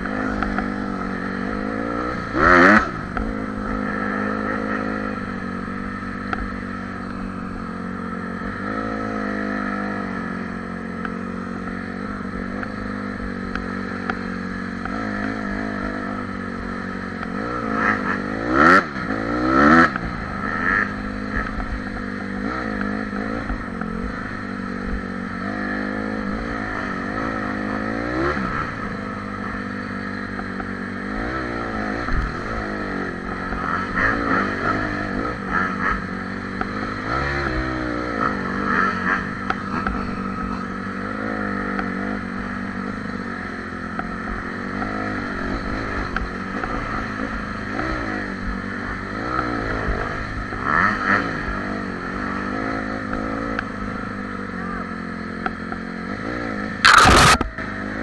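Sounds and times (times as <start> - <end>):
dirt bike engine revving: 0.0 - 54.9, 55.6 - 58.0.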